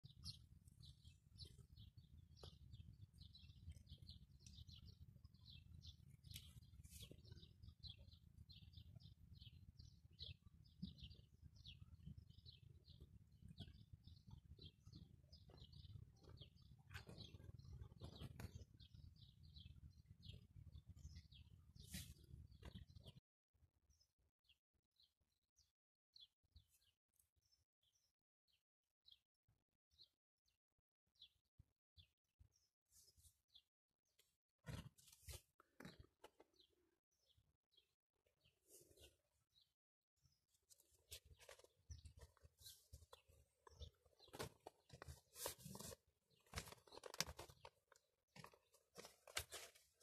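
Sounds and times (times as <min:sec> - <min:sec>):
small birds chirping: 0:00.0 - 0:23.2, 0:23.8 - 0:29.2, 0:29.9 - 0:30.2, 0:31.2 - 0:50.0.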